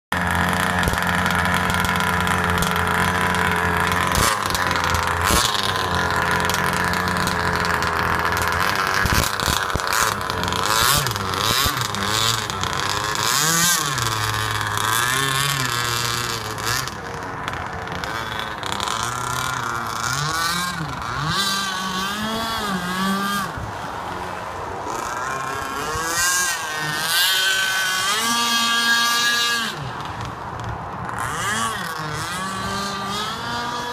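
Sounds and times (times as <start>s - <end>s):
two-stroke boat engine revving: 0.1s - 33.9s.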